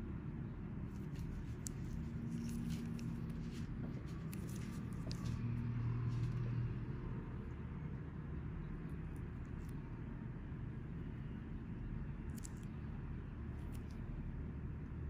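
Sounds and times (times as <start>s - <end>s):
low background hum and rumble: 0.0s - 15.0s.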